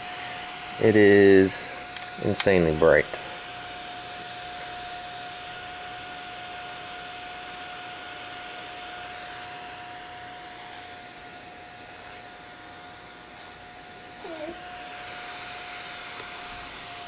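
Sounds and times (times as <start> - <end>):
small cooling fan whoosh: 0.0 - 17.0.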